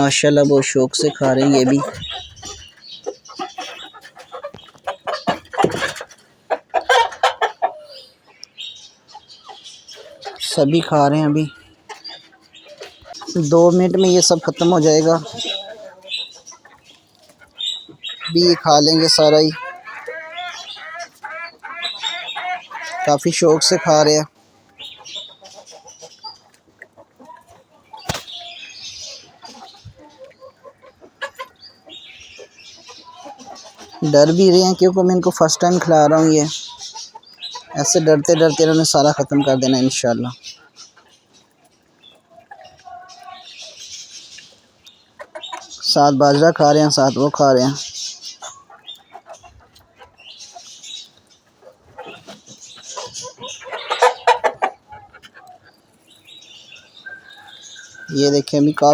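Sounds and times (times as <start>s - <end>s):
chickens clucking: 0.0s - 58.9s
chicks peeping: 0.0s - 58.9s
pecking and rustling: 0.1s - 58.9s.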